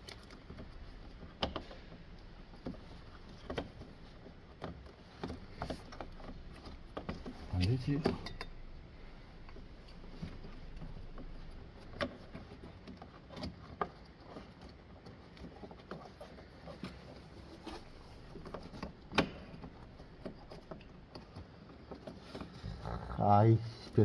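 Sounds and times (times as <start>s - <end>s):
car parts clicking and knocking: 0.0s - 22.6s.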